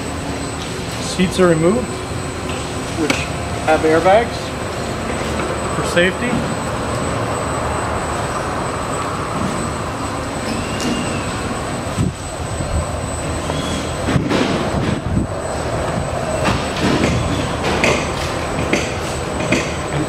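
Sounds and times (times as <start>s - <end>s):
hangar rumbling background noise: 0.0s - 20.0s.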